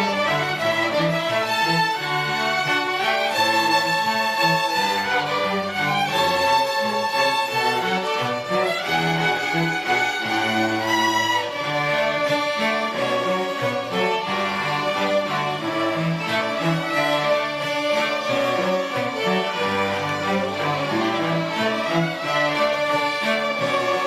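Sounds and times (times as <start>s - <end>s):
school orchestra playing: 0.0s - 24.0s
violins playing melody: 0.0s - 24.0s.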